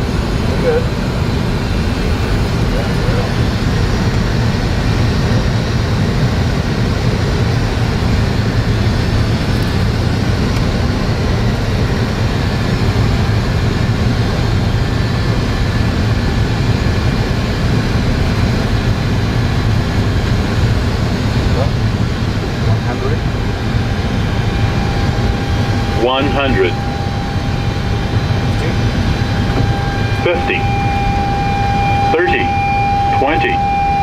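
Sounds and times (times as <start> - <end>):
aircraft engines rumbling: 0.0 - 34.0.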